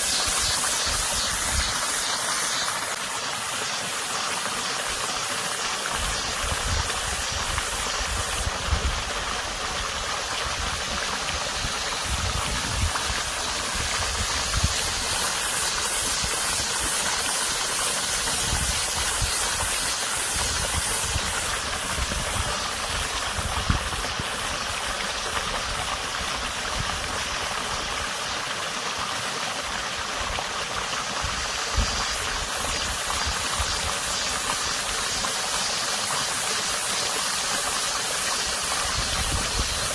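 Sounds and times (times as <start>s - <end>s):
cicadas buzzing: 0.0s - 39.9s
water running over creek bed: 0.0s - 39.9s.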